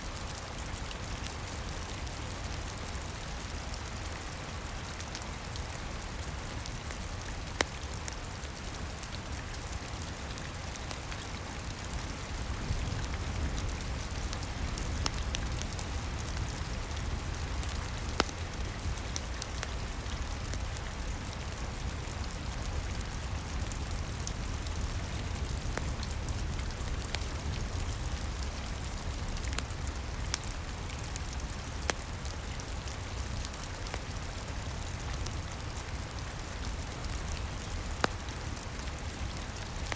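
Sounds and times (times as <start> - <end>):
steady rain: 0.0 - 39.9
wood fire crackling: 0.2 - 39.9.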